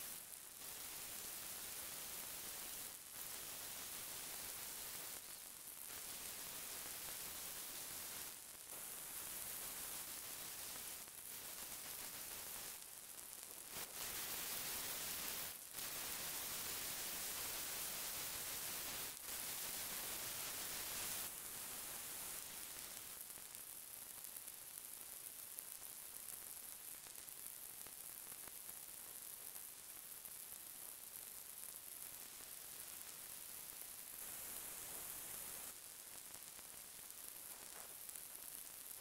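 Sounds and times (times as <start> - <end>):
static-like hiss: 0.0 - 39.0.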